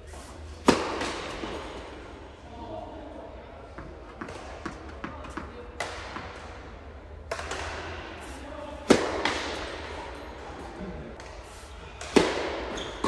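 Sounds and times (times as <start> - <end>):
racket hitting tennis ball: 0.2 - 2.0, 3.7 - 6.6, 7.2 - 13.0.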